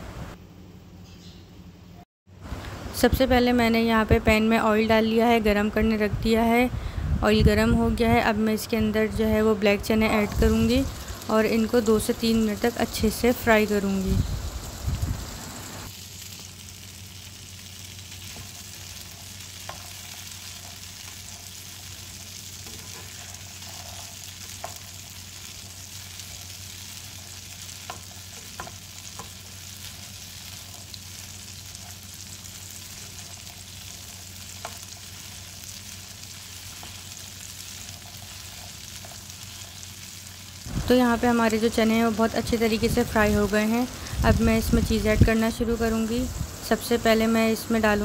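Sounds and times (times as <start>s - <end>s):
chickpeas sizzling in hot oil: 8.6s - 48.0s.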